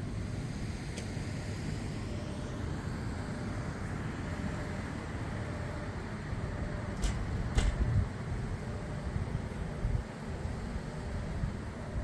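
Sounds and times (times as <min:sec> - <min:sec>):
distant traffic: 0:00.0 - 0:12.0
wind: 0:00.0 - 0:12.0.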